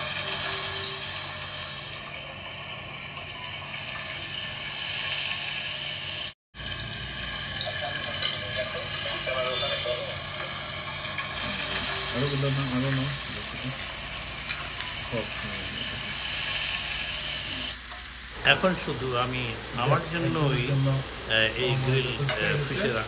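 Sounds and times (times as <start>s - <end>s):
fish sizzling on a grill pan: 0.0s - 23.0s.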